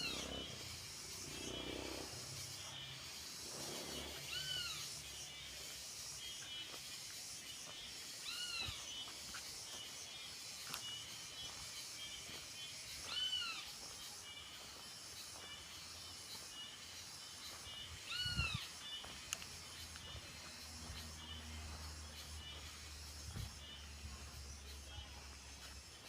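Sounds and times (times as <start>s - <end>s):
high chirping of birds: 0.0s - 26.0s.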